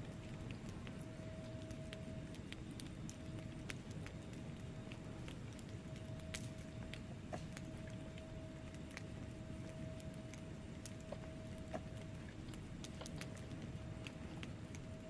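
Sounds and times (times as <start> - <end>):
low rumble of flame: 0.0 - 15.0
wood fire crackling and popping: 0.0 - 15.0.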